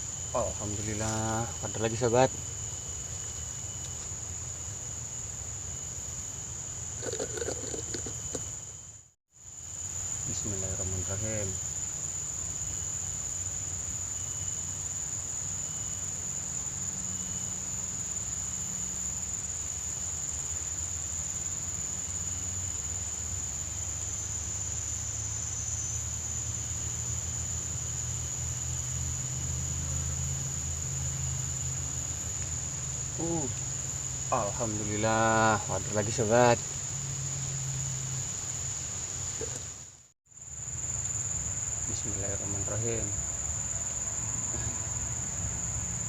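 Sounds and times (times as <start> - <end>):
insects high-pitched calling: 0.0 - 46.0.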